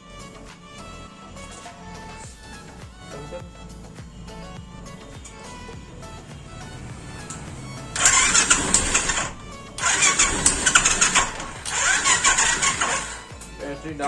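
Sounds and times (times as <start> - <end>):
motorcycle electric starter cranking: 0.0 - 14.0.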